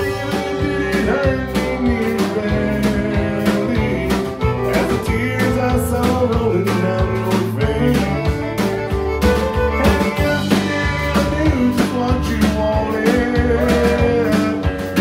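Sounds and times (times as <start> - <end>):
man singing: 0.0 - 8.6, 9.7 - 15.0
country band playing: 0.0 - 15.0.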